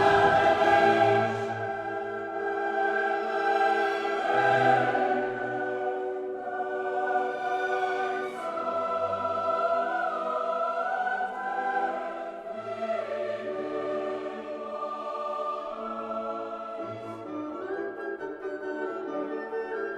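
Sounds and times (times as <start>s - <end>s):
choir singing held chords: 0.0s - 17.7s.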